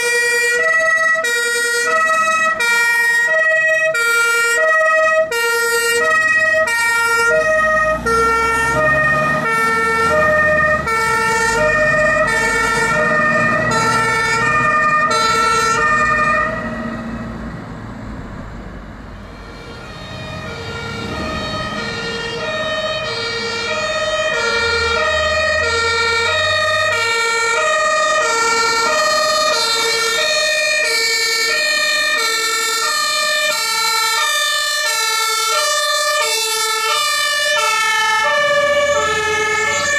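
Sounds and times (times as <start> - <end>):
diesel truck engines rumbling: 0.0 - 39.9
two-tone sirens: 0.0 - 39.9.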